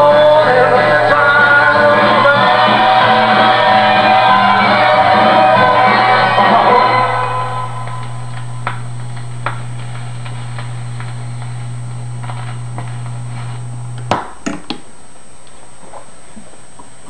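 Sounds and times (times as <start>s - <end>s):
record player hum: 0.0s - 17.0s.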